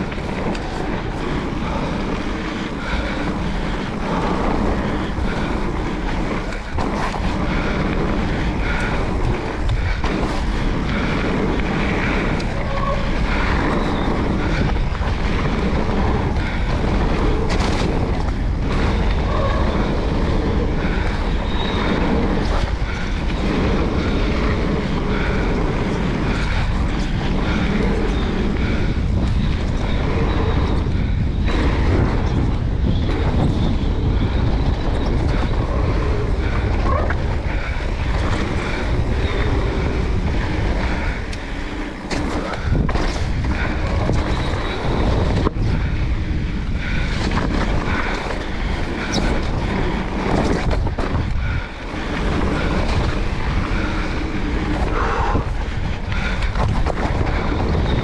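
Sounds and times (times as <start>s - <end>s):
bike knocks and rattles: 0.0s - 54.8s, 55.5s - 58.0s
tyres rolling on gravel: 0.0s - 58.0s
wind buffeting microphone: 0.0s - 58.0s.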